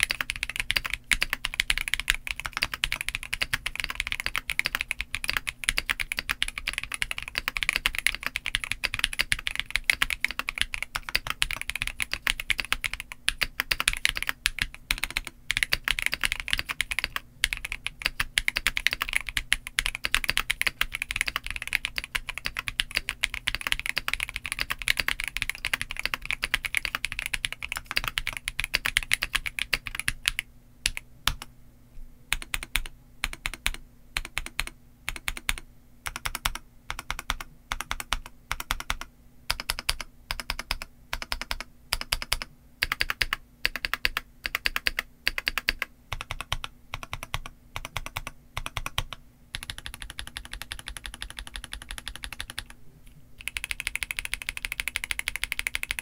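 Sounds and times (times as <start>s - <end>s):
mechanical keyboard typing: 0.0s - 31.5s, 32.3s - 52.8s, 53.4s - 56.0s.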